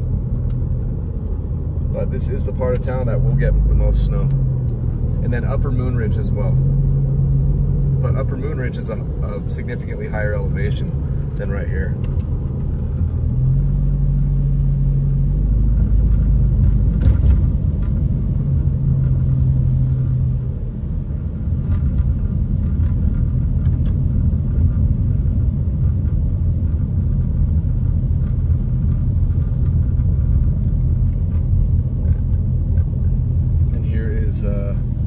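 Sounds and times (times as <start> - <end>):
engine and tyres rumbling: 0.0 - 35.0.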